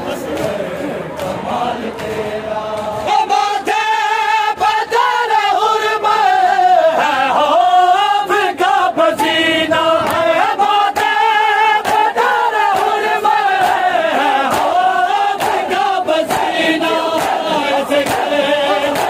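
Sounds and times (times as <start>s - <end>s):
men singing a lament: 0.0s - 19.0s.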